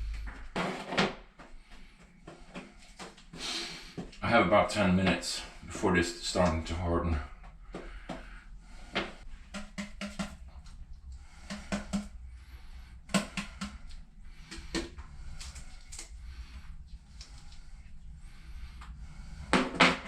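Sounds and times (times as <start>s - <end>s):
low steady hum: 0.0s - 0.6s, 3.8s - 20.0s.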